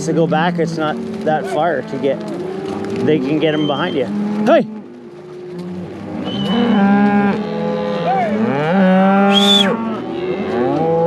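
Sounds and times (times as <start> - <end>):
cattle mooing: 0.0 - 11.0.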